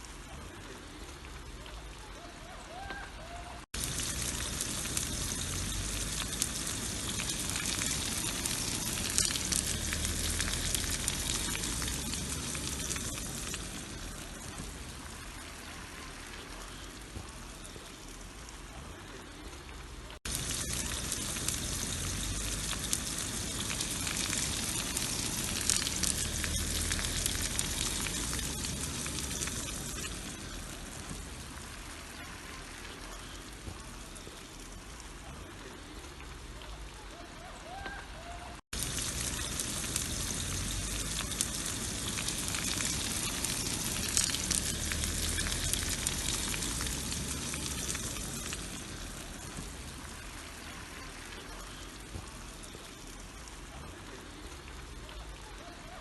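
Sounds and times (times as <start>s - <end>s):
sausage sizzling in oil: 3.6s - 36.6s, 38.6s - 56.0s.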